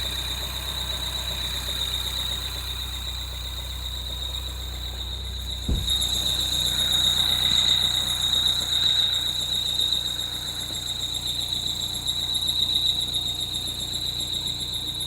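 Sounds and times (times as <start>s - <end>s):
car engine running: 0.0s - 14.3s.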